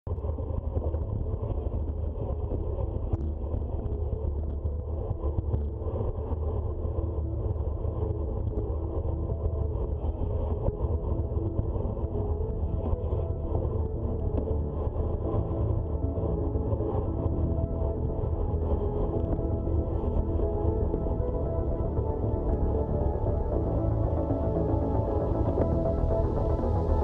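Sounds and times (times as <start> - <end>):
wind rumble on microphone: 0.1 - 27.0.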